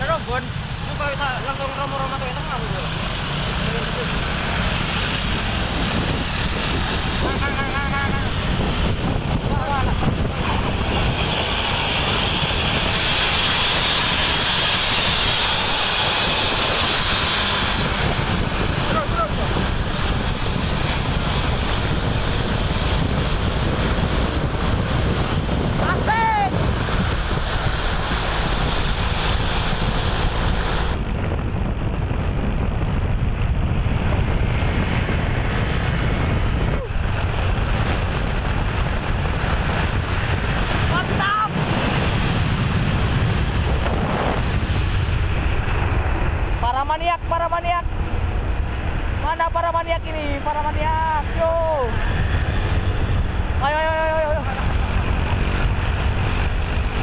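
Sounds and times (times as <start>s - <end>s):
heavy highway traffic roar: 0.0s - 57.0s
wind on microphone: 0.0s - 57.0s.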